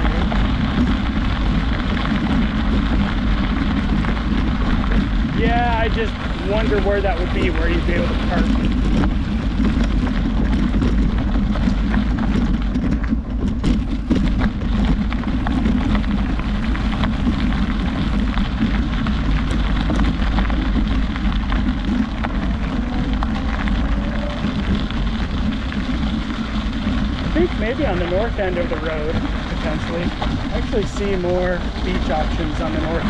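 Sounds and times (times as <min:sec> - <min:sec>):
crackling hiss: 0:00.0 - 0:33.0
wind buffeting microphone: 0:00.0 - 0:33.0.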